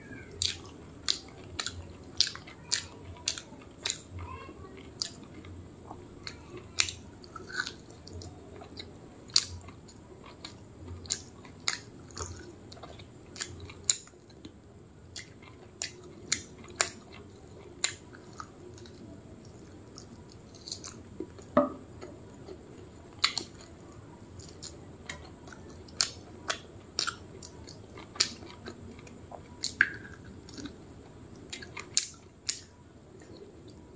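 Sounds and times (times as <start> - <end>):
close chewing with lip smacks: 0.3 - 4.2, 4.8 - 21.5, 22.3 - 33.8.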